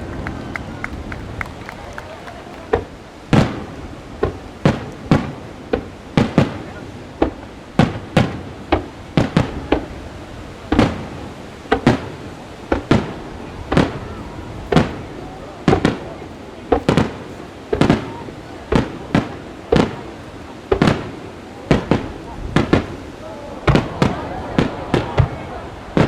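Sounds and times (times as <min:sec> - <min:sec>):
fireworks bursting with echo: 0:00.0 - 0:26.0.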